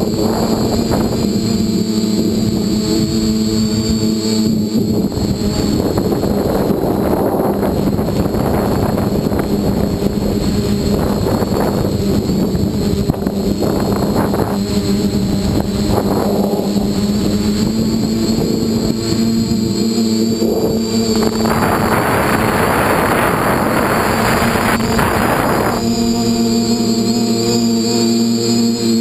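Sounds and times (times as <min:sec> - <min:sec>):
drone propellers buzzing: 0:00.0 - 0:29.0
wind rushing over microphone: 0:00.0 - 0:29.0.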